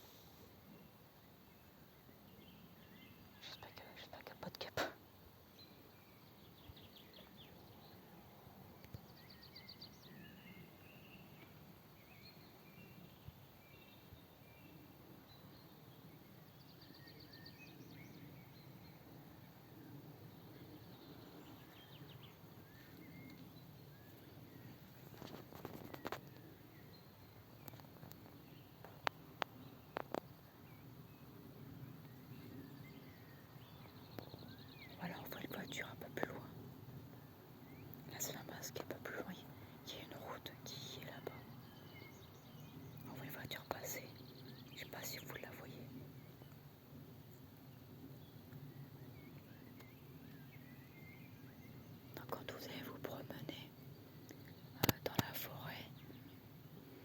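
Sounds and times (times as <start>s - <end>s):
background hiss: 0.0s - 57.0s
faint bird chirps: 1.6s - 8.2s, 8.8s - 36.6s, 37.6s - 46.6s, 47.3s - 57.0s.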